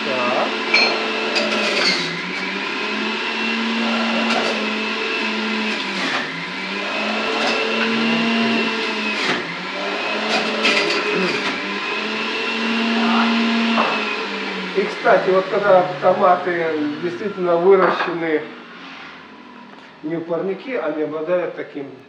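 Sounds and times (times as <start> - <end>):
electric juicer whining: 0.0 - 20.8.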